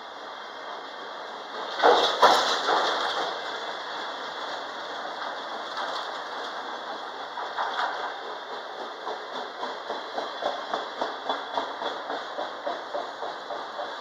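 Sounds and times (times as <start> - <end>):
passing train: 0.0 - 14.0.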